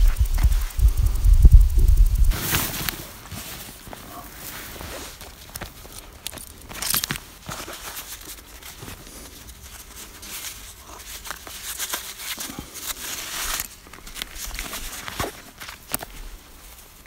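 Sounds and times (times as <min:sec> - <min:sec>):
buckles and straps clicking: 0:00.0 - 0:03.0, 0:04.8 - 0:17.0
backpack canvas rustling: 0:02.3 - 0:17.0.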